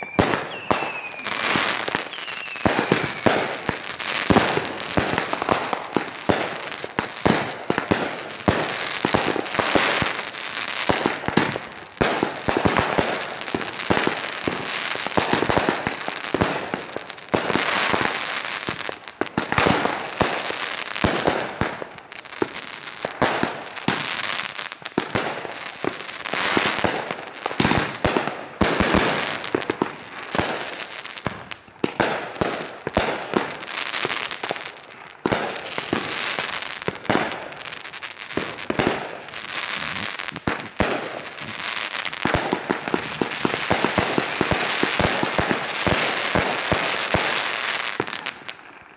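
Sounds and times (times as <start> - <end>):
fireworks bursts and crackling: 0.0 - 48.9.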